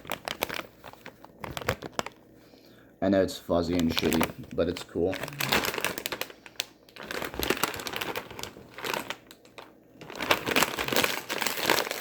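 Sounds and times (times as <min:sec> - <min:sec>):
plastic packaging crinkling: 0:00.0 - 0:02.3, 0:03.6 - 0:12.0.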